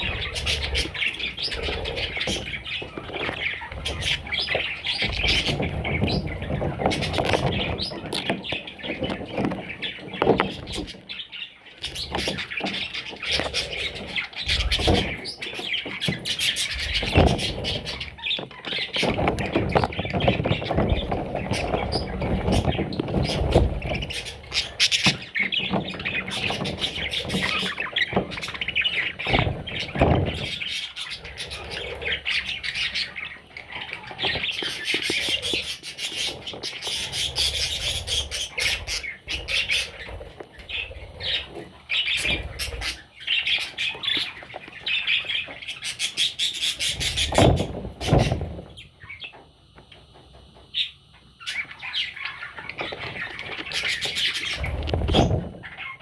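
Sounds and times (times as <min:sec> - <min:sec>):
budgerigar chicks chirping: 0:00.0 - 0:56.0.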